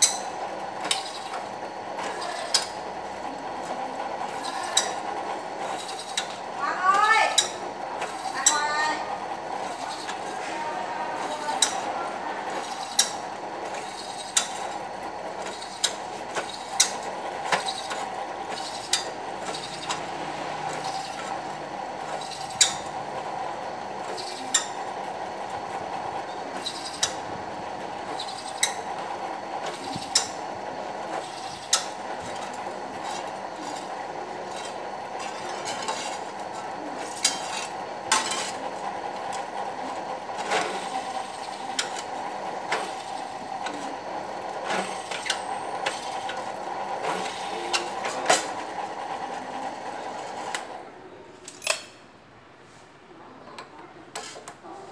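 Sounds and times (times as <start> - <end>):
drill press humming: 0.0 - 52.5.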